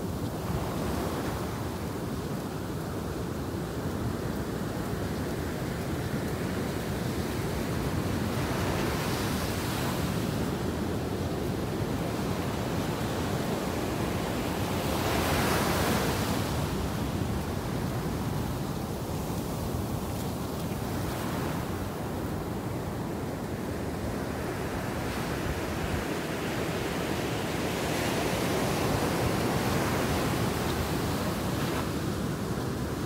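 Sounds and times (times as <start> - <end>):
ocean surf on beach: 0.0 - 33.0.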